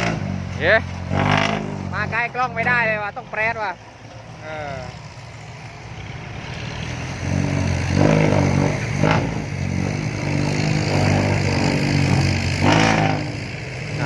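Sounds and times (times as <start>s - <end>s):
diesel truck engine under throttle: 0.0s - 14.0s.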